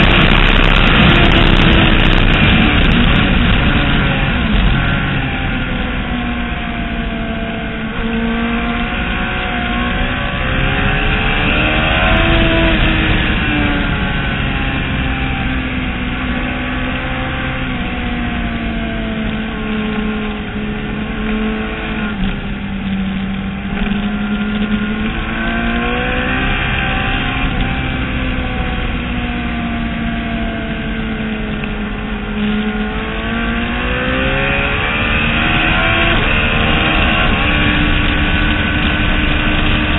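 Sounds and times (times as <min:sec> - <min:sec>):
motorcycle engine accelerating: 0:00.0 - 0:39.9
wind noise rushing: 0:00.0 - 0:39.9.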